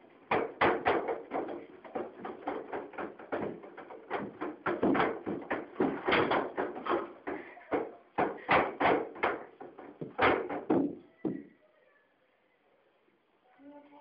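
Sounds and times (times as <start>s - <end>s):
desks and chairs banging: 0.0s - 11.5s.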